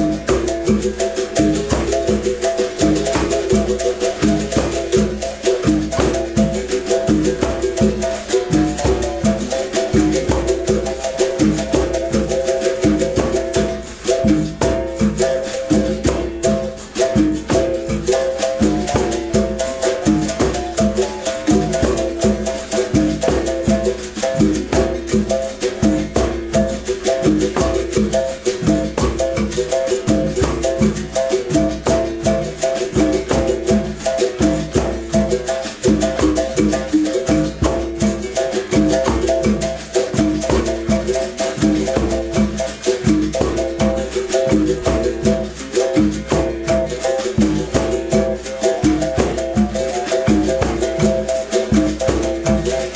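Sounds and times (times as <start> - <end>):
shaker rattling: 0.0 - 52.9.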